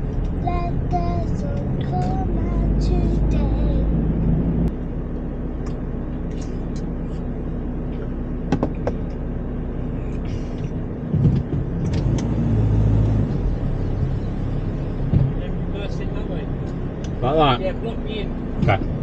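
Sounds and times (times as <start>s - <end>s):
van engine and road noise: 0.0s - 19.0s.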